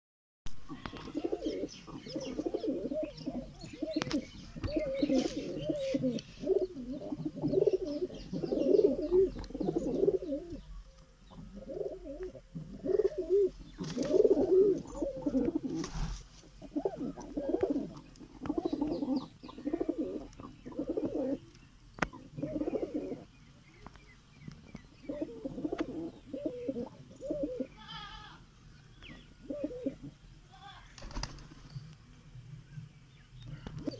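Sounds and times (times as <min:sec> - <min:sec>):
pigeons cooing: 0:00.7 - 0:23.4, 0:24.7 - 0:28.3, 0:29.0 - 0:30.3, 0:33.4 - 0:33.9
birds chirping: 0:00.7 - 0:33.9.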